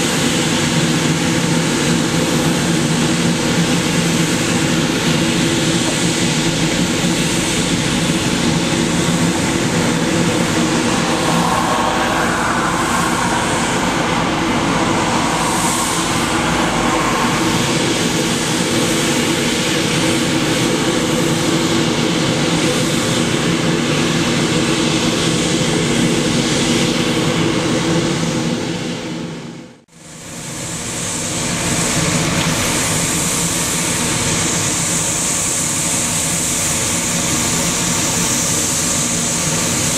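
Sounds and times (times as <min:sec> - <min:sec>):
street sweeper engine hum: 0:00.0 - 0:39.9.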